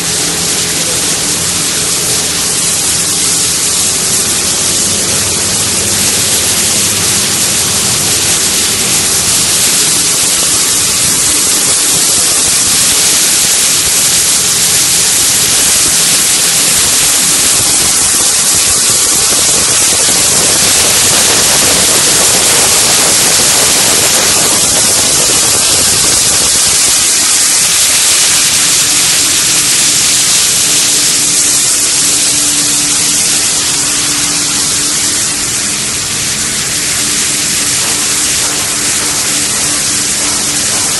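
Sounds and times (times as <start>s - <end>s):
machinery rushing noise: 0.0s - 40.9s.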